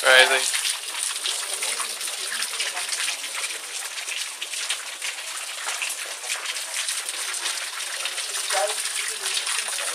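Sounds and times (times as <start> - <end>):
fountain jets spraying water: 0.0 - 9.9.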